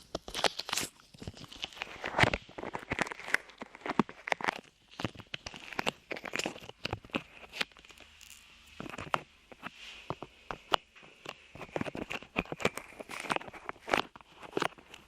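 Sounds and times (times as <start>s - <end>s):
sticky clay crackling: 0.0s - 15.0s.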